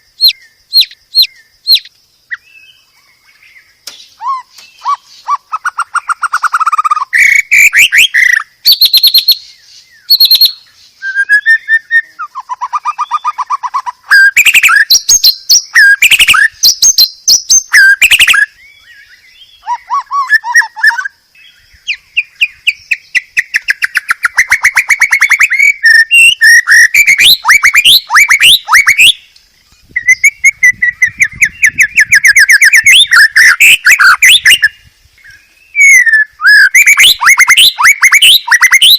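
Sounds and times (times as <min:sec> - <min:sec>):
songbird singing trills and whistles: 0:00.0 - 0:38.9.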